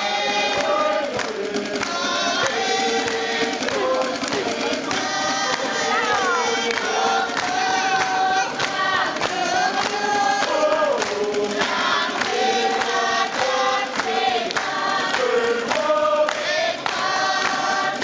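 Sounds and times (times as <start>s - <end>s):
group singing: 0.0s - 18.0s
hand claps: 0.0s - 18.0s.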